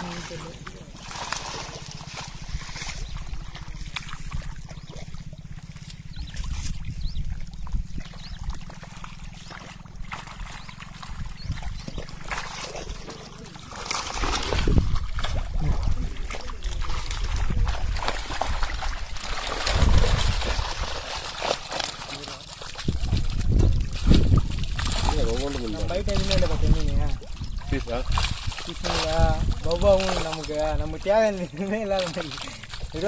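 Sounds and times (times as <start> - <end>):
muddy water splashing: 0.0 - 33.0.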